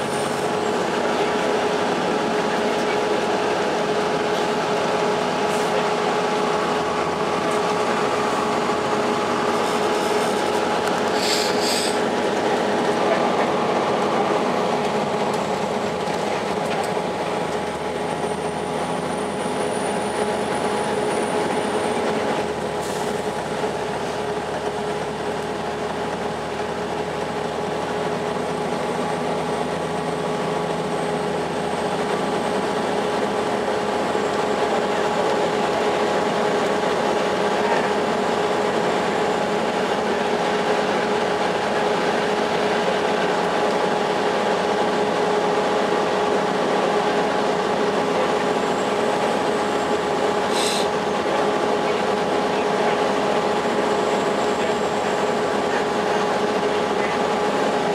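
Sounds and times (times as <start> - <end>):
diesel bus engine drone: 0.0 - 57.9
road and tyre noise: 0.0 - 57.9.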